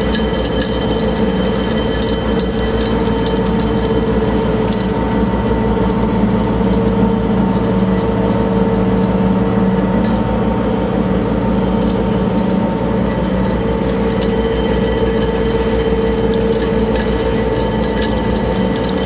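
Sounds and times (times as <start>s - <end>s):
ferry engine droning: 0.0s - 19.0s.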